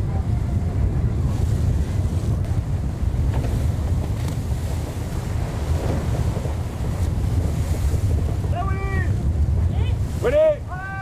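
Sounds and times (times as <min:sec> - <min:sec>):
choppy sea water splashing: 0:00.0 - 0:11.0
wind buffeting microphone: 0:00.0 - 0:11.0.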